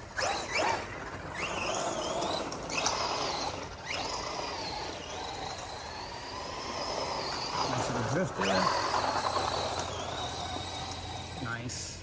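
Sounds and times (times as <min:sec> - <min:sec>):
electric motor whining: 0:00.0 - 0:11.8
tyre and drivetrain noise: 0:00.0 - 0:12.0.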